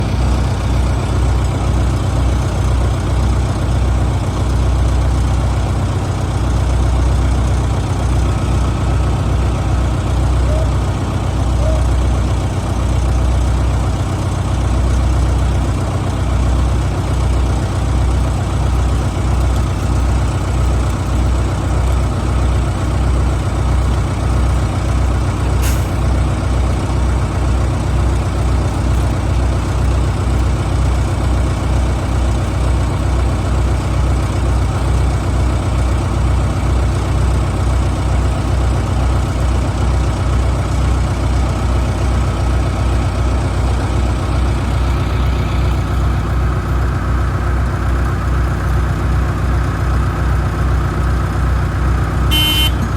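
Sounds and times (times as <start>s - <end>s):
heavy engine running with low pulsing: 0.0s - 52.9s.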